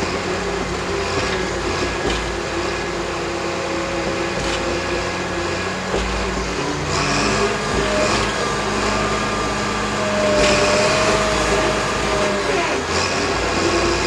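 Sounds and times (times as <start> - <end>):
bulldozer diesel engine under load: 0.0 - 14.0.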